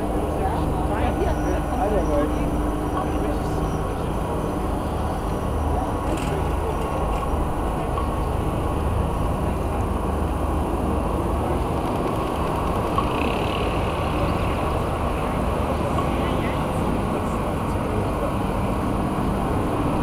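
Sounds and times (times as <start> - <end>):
city road traffic rumble: 0.0 - 20.0.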